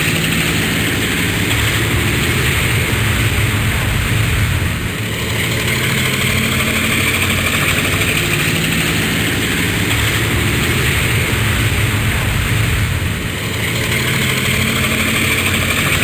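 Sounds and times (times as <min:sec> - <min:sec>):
helicopter rotor and engine: 0:00.0 - 0:16.0.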